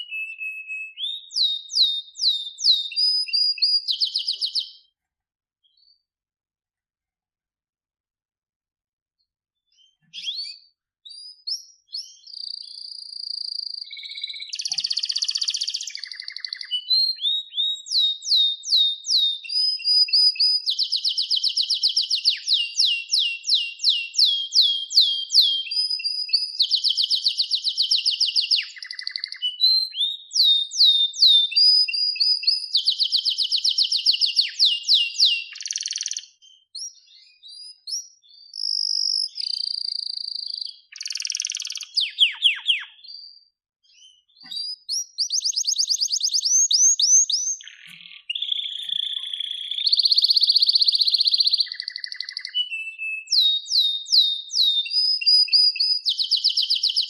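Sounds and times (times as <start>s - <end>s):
canary singing: 0.0s - 4.9s, 9.7s - 57.0s.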